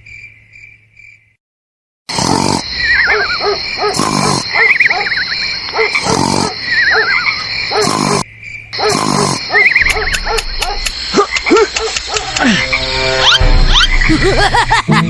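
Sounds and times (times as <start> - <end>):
insect trill: 2.1 - 14.7
frog calls: 2.2 - 14.5.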